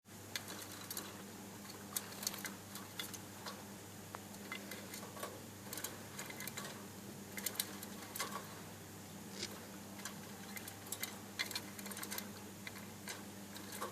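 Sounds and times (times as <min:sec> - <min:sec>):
steady low hum: 0:00.1 - 0:13.9.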